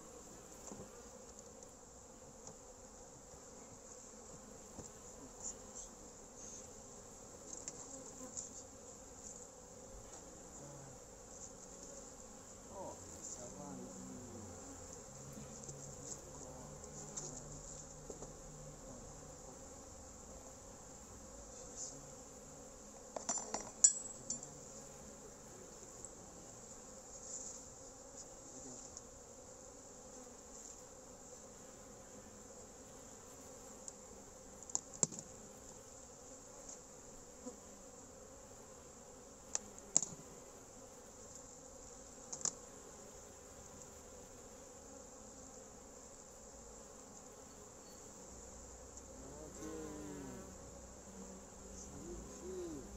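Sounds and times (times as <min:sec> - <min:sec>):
honeybees buzzing: 0:00.0 - 0:52.9.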